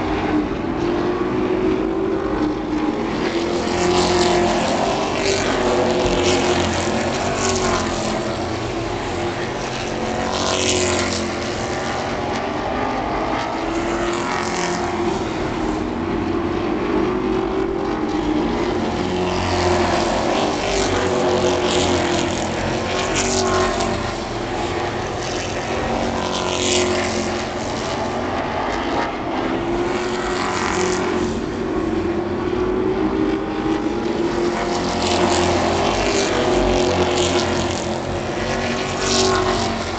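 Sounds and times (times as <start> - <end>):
racing truck engines: 0.0 - 39.9.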